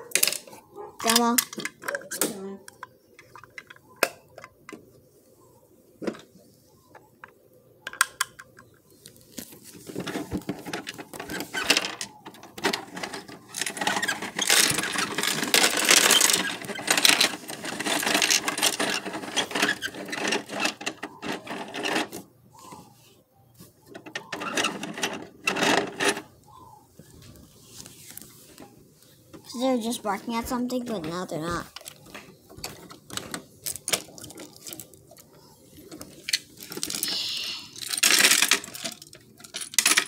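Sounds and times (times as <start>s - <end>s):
plastic toys rattling: 0.0s - 4.8s, 7.9s - 22.3s, 23.8s - 26.4s, 27.0s - 40.0s.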